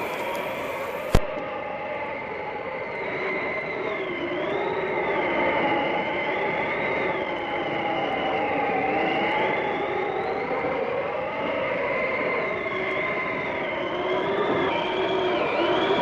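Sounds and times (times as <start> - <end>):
howling blizzard wind: 0.0 - 16.0.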